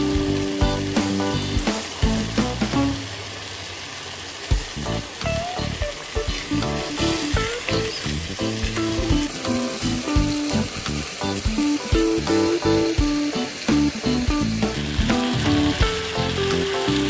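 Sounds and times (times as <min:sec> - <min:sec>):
background music: 0:00.0 - 0:03.0, 0:04.8 - 0:17.0
chicken sizzling in a pot: 0:00.0 - 0:17.0.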